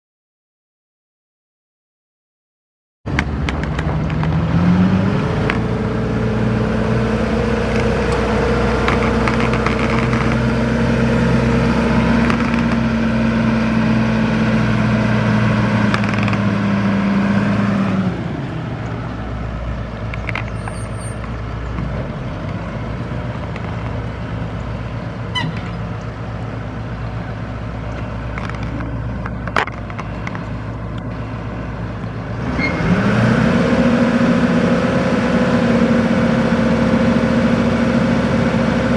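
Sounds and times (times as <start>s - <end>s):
diesel truck engine revving: 3.1s - 38.9s.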